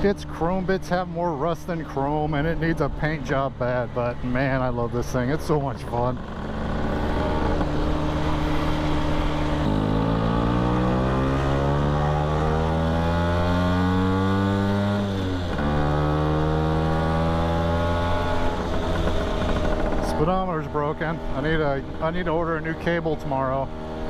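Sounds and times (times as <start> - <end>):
scooter engine accelerating: 0.0 - 23.0, 23.6 - 24.0.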